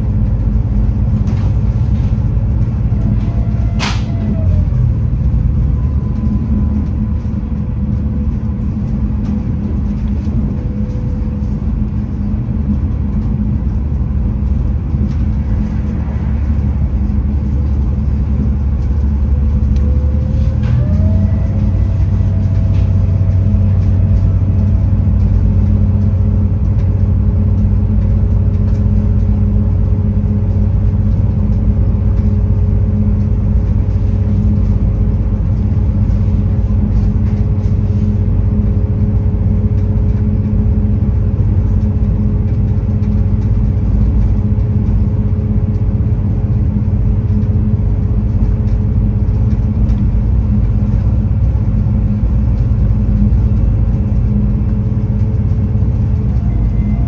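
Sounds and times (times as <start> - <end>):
diesel railcar rumbling at speed: 0.0 - 57.0.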